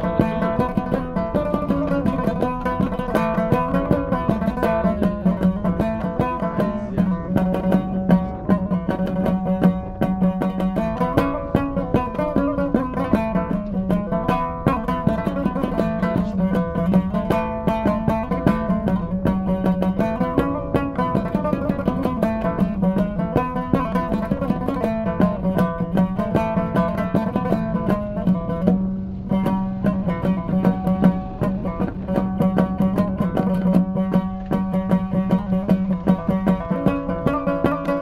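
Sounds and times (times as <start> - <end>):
plucked string instrument melody: 0.0 - 38.0.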